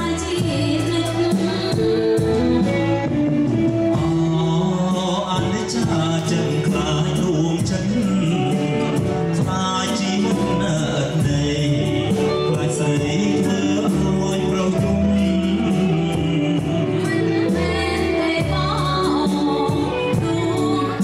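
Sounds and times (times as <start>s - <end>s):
drum kit beat: 0.0s - 21.0s
electric bass: 0.0s - 21.0s
male and female singers duet: 0.0s - 21.0s.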